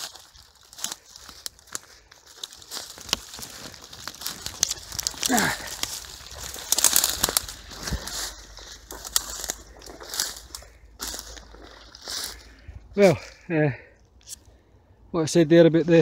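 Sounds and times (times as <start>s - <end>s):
leaves and twigs rustling and snapping: 0.0s - 14.6s.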